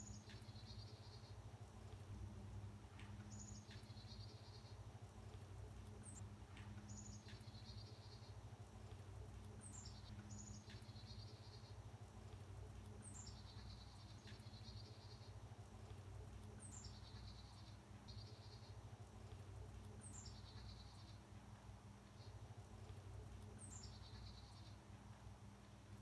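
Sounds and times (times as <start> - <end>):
bird song with buzzy trill: 0.0 - 2.3, 3.0 - 21.4, 22.2 - 24.8
steady low hum: 0.0 - 26.0.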